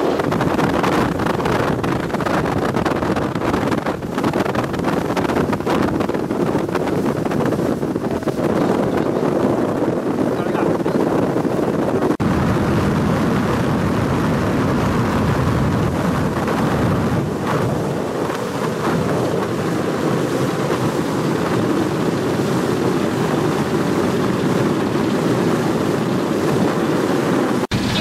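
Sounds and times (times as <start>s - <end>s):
boat engine: 0.0s - 28.0s
water noise: 0.0s - 28.0s
wind on microphone: 0.0s - 28.0s.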